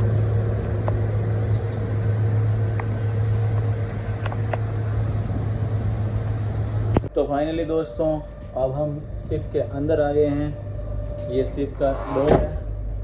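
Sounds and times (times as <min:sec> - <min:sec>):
large engine running: 0:00.0 - 0:13.0.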